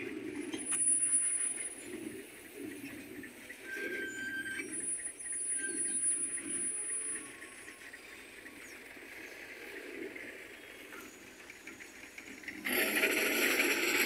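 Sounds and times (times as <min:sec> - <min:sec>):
freight train rumble: 0:00.0 - 0:14.0
train wheels squealing: 0:00.4 - 0:14.0.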